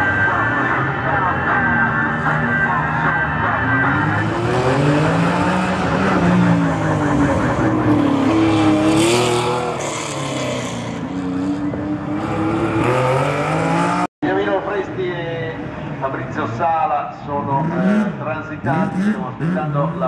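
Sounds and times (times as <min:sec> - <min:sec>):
rally car engine revving: 0:00.0 - 0:14.1, 0:17.4 - 0:20.0.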